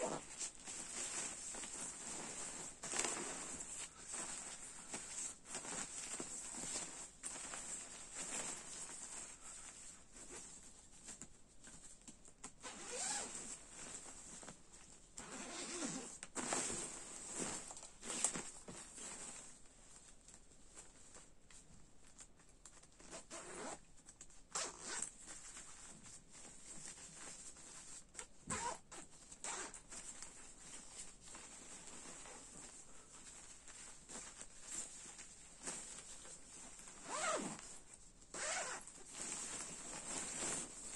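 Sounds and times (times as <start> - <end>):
fabric rustling: 0.0 - 40.9.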